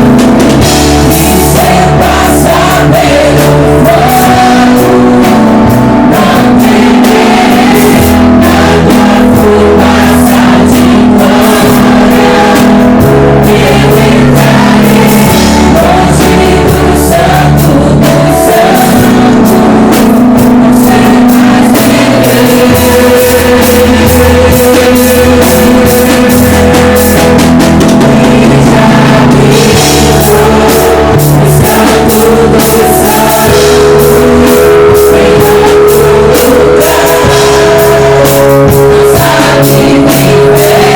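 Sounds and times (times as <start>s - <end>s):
live band playing: 0.0s - 40.9s
person singing: 0.9s - 40.9s.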